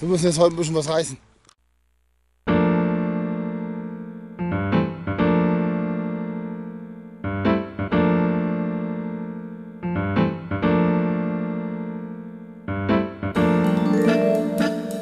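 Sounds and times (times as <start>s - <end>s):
piano chords: 2.6s - 15.0s.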